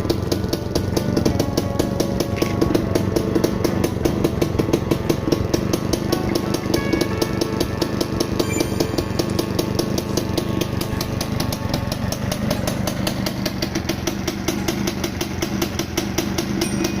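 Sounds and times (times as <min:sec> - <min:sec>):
two-stroke motorcycle engine idling: 0:00.0 - 0:17.0.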